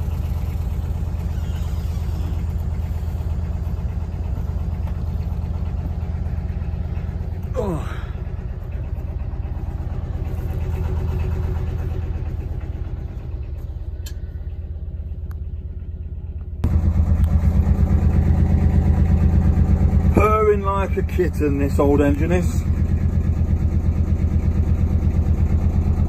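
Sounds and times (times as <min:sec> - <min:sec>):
diesel engine idling chug: 0:00.0 - 0:26.0.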